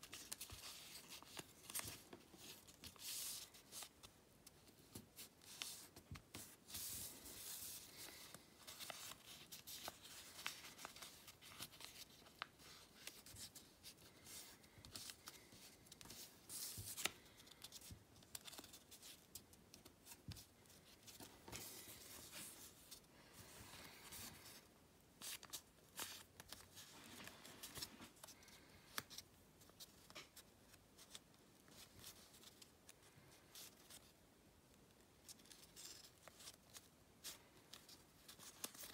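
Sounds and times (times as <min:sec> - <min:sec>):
paper rustling as folded: 0:00.0 - 0:34.2, 0:35.2 - 0:38.9.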